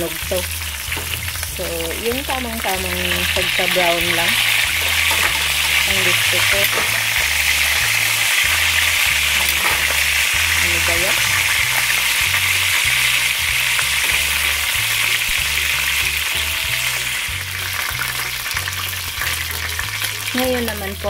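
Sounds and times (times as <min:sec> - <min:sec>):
oil sizzling in a wok: 0:00.0 - 0:21.0.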